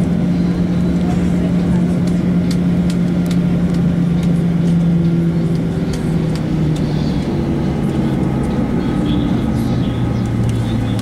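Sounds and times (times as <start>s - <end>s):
jet engine drone in cabin: 0.0s - 11.0s
low hum: 0.0s - 11.0s.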